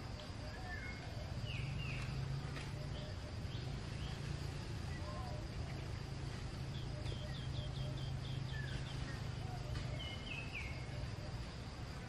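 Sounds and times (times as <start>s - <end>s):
steady low hum: 0.0s - 12.0s
small bird chirping: 0.1s - 11.7s.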